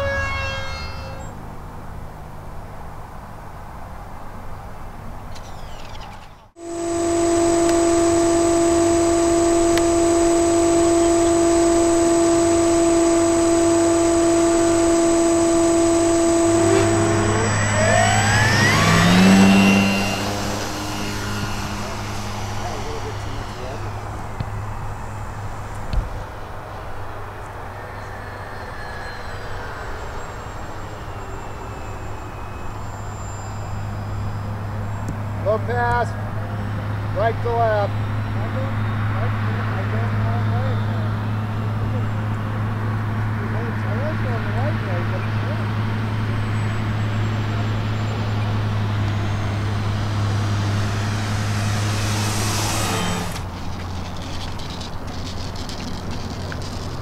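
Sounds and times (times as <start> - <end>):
model airplane propeller whine: 6.6 - 57.0.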